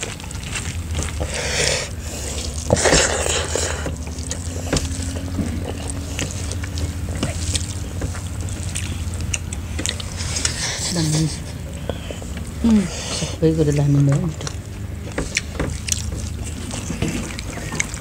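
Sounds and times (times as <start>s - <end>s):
people chewing and eating: 0.0s - 18.0s
steady low hum: 0.0s - 18.0s.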